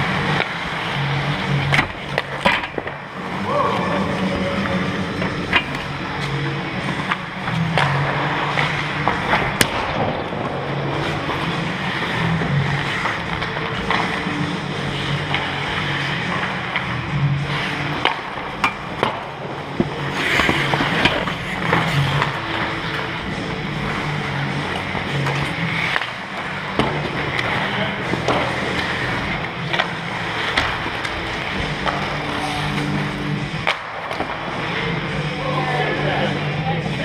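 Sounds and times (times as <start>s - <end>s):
sticks clacking on ice and puck: 0.0s - 35.2s
skates scraping on ice: 0.0s - 37.0s.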